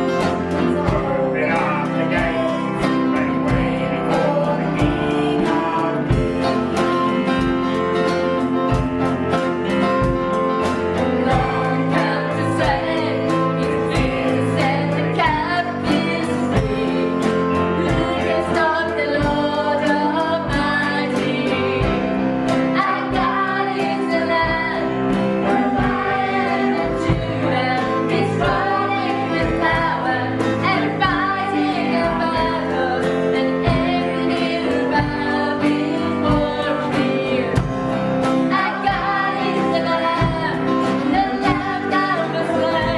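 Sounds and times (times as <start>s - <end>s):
group singing worship song: 0.0s - 42.9s
instrumental accompaniment with beat: 0.0s - 42.9s.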